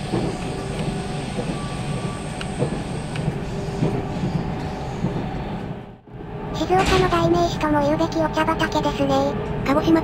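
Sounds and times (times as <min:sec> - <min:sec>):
wheels rumbling on rail: 0:00.0 - 0:10.0.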